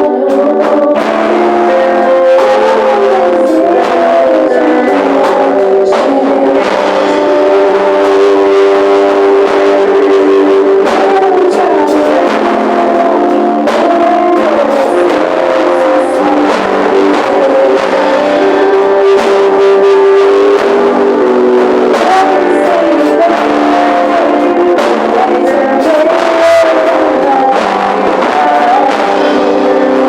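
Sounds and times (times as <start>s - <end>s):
guitar chords: 0.0s - 30.0s
worship band playing: 0.0s - 30.0s.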